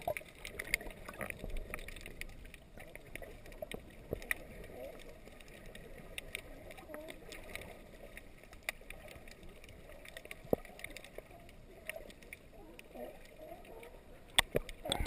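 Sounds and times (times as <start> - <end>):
muffled underwater rush: 0.0 - 15.0
small clicks and crackles: 0.0 - 15.0.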